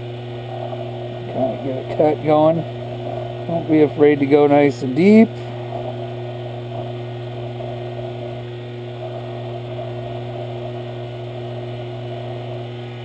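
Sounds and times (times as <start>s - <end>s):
lathe humming: 0.0s - 13.0s
file scraping spinning metal: 0.1s - 13.0s.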